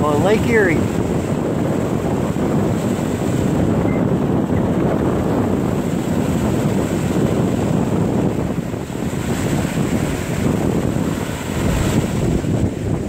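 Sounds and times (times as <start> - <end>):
small waves breaking on shore: 0.0 - 13.0
wind buffeting microphone: 0.0 - 13.0.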